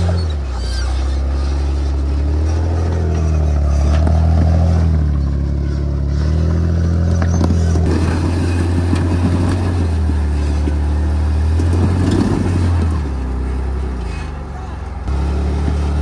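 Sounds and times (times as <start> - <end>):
engine running at low revs: 0.0 - 16.0.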